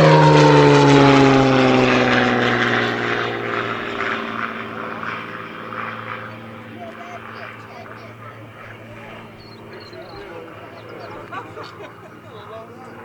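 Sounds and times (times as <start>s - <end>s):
propeller plane passing fast: 0.0s - 13.0s.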